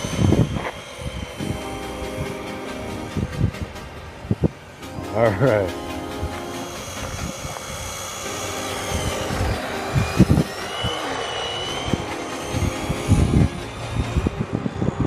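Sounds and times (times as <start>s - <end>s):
electric motor whining: 0.0s - 15.0s
steady rushing noise: 0.0s - 15.0s.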